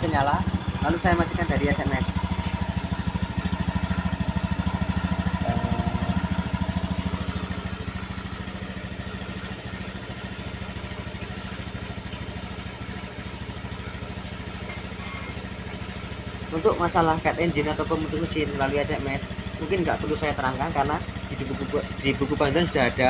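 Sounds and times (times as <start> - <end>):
scooter engine idling: 0.0 - 23.0.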